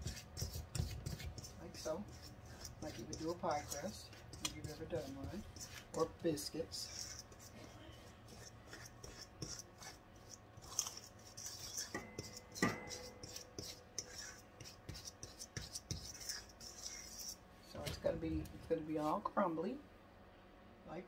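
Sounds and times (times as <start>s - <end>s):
fingers rubbing flour in bowl: 0.0s - 18.1s.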